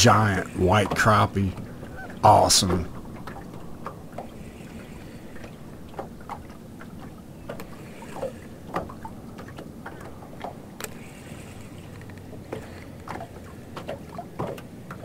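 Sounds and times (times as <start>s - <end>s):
low background rush: 0.0s - 15.0s
small waves lapping against boat: 0.0s - 15.0s.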